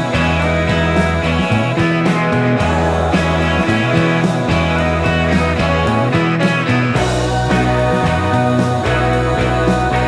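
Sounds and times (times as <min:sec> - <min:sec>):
rock music with electric guitar: 0:00.0 - 0:10.0.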